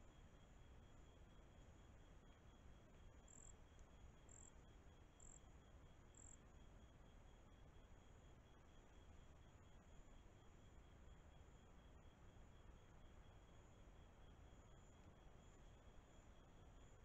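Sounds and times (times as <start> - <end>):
insects trilling: 0.1 - 17.0.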